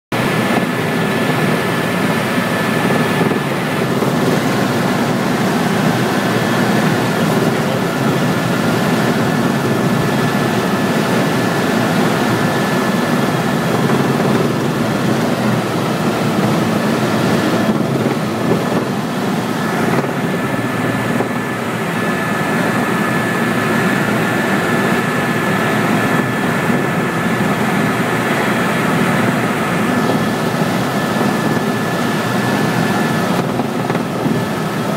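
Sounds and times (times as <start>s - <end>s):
helicopter turbine and rotors droning: 0.2s - 34.9s
high whine: 0.2s - 34.9s.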